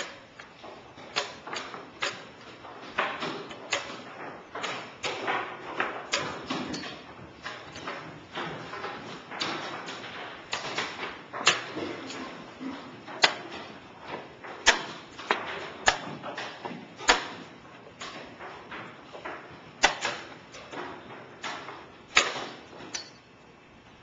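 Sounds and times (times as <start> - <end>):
chess pieces knocking on board: 0.0 - 22.9.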